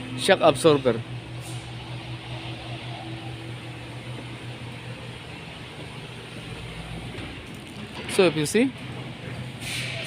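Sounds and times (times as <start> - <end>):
low mechanical hum with hiss: 0.0 - 10.0.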